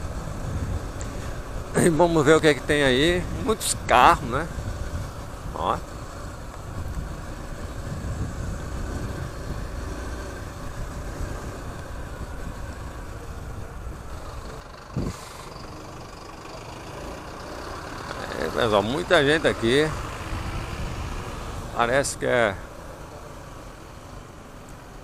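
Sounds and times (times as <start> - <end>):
engines and road noise rumble: 0.0 - 25.0.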